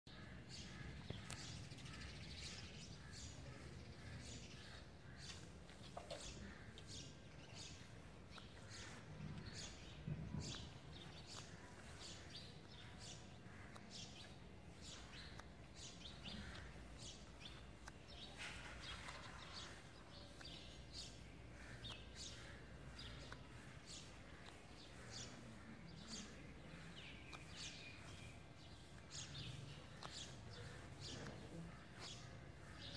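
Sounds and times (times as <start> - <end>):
birds chirping faintly: 0.1 - 32.9
low outdoor background: 0.1 - 32.9.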